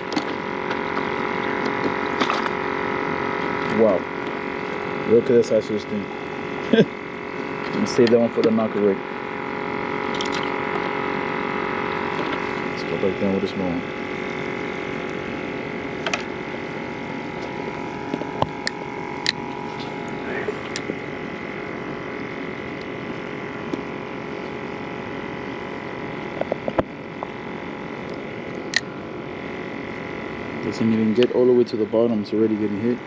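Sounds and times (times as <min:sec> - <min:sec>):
small electric motor humming: 0:00.0 - 0:33.0.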